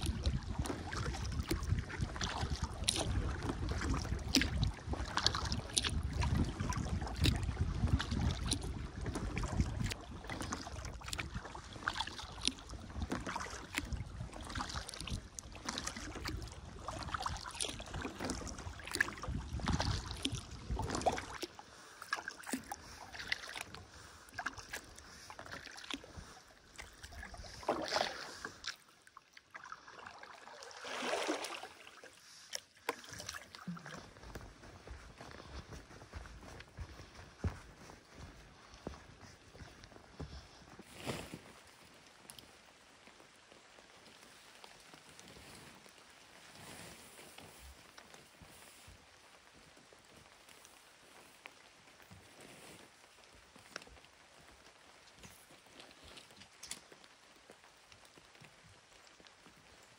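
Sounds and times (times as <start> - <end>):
kayak paddle splashing: 0.0 - 59.9.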